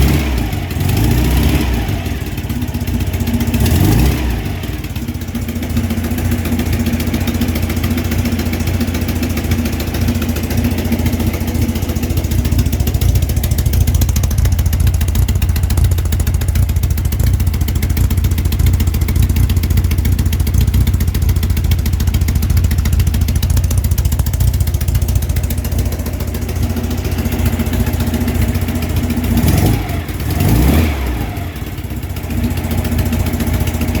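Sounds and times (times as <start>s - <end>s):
engine running with ticking: 0.0s - 34.0s.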